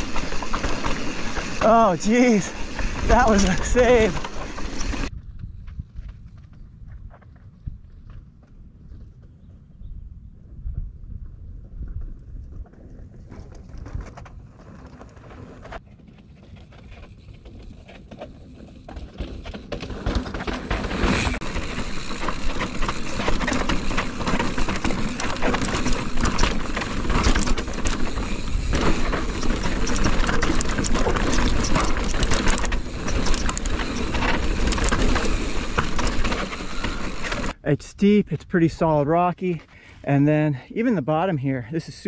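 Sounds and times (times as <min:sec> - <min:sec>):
bike rattling: 0:00.0 - 0:09.5, 0:11.6 - 0:37.6
bike tyres on rock: 0:00.0 - 0:09.7, 0:11.1 - 0:40.6.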